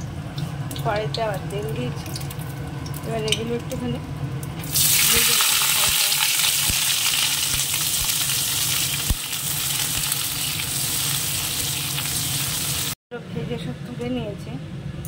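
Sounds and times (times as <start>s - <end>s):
vegetables sizzling in hot oil: 0.8s - 13.0s.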